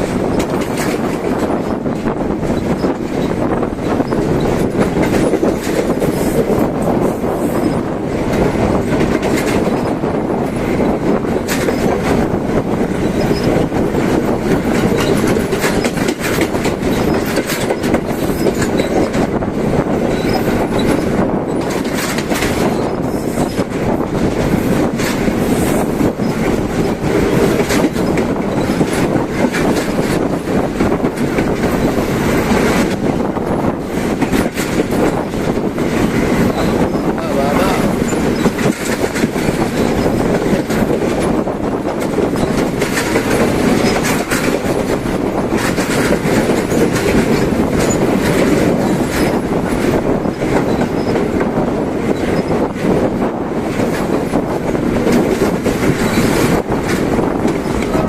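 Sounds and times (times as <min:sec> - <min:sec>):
train wheels rumbling: 0:00.0 - 0:58.0
wheels clicking over rail joints: 0:00.0 - 0:58.0.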